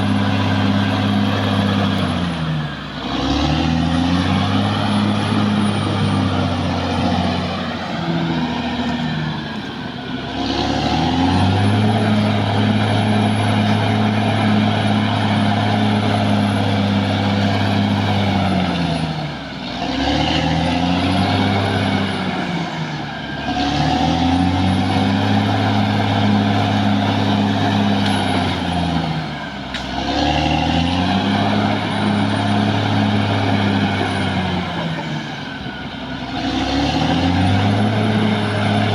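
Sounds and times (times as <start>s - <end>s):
bulldozer diesel engine: 0.0s - 38.9s.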